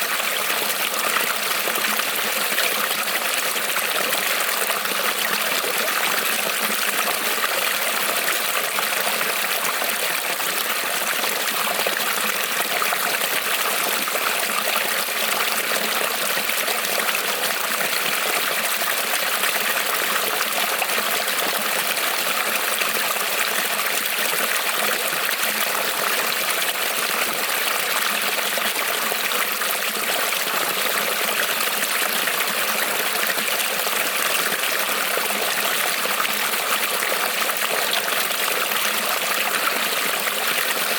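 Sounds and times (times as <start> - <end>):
creek trickling over stones: 0.0 - 40.9.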